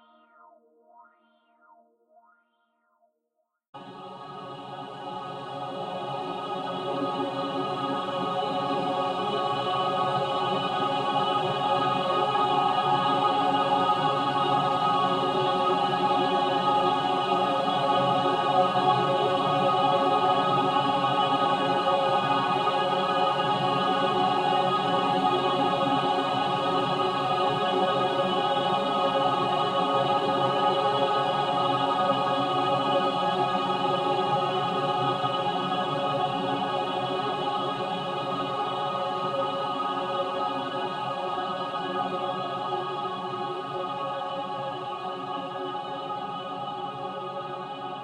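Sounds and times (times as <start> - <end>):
synthesized choir pad: 3.8 - 48.0.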